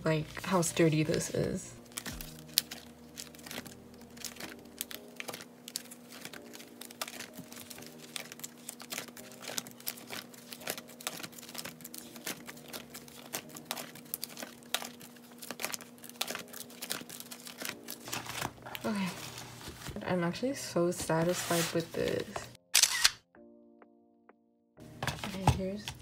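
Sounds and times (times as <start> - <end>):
plastic sleeves crinkling: 0.0 - 20.2, 20.9 - 22.6.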